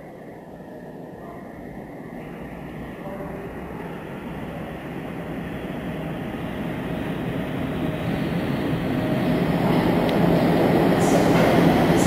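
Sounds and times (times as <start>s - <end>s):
train rumbling in a tunnel: 0.0s - 12.0s.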